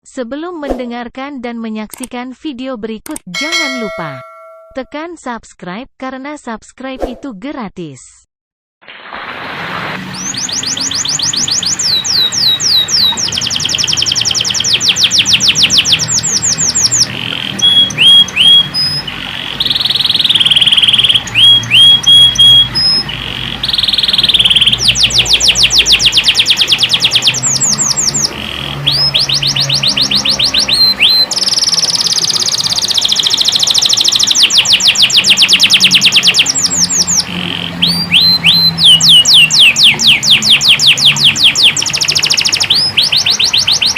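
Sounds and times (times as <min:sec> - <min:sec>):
canary singing with trills: 0:03.4 - 0:04.9, 0:10.1 - 0:43.9.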